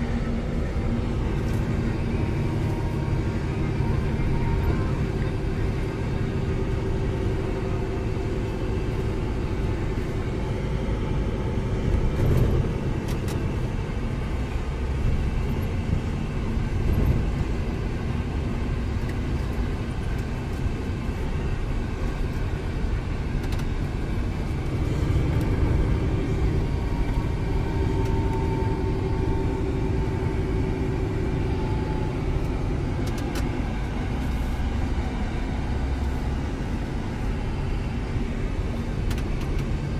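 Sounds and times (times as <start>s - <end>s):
faint whine: 0.0s - 39.9s
road rumble: 0.0s - 39.9s
truck diesel engine in cab: 0.0s - 39.9s.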